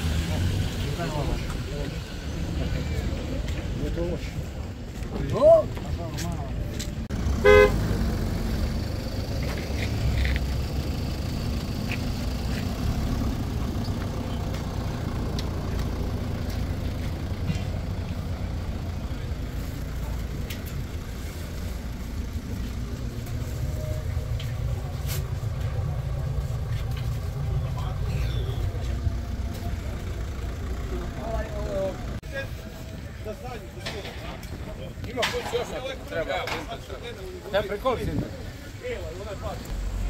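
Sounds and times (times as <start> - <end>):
fairground ambience rumble: 0.0 - 40.0.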